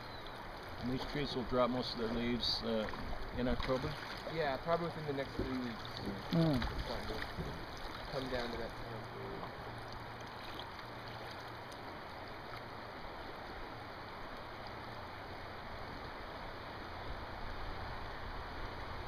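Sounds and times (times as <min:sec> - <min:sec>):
river current rushing and rippling: 0:00.0 - 0:19.0.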